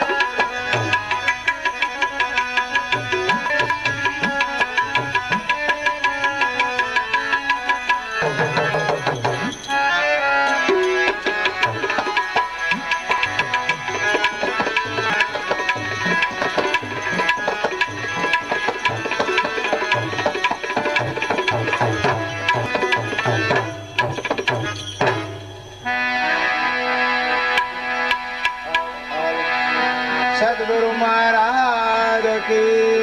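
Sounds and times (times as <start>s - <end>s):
devotional music: 0.0s - 33.0s
tabla rhythm: 0.0s - 33.0s.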